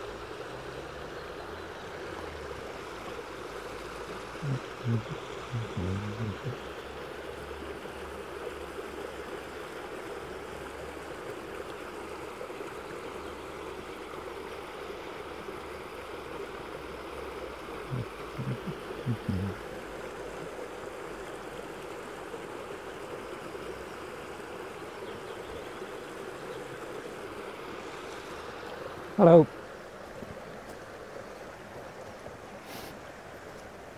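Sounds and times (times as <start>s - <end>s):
stream babbling over stones: 0.0s - 33.9s.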